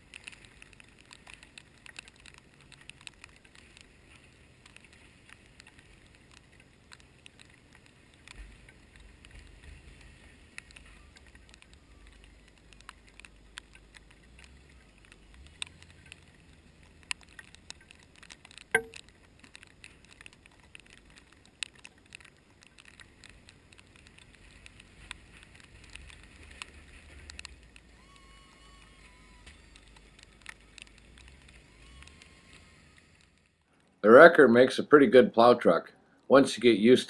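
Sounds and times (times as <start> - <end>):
clicks and ticks: 0.0 - 34.0.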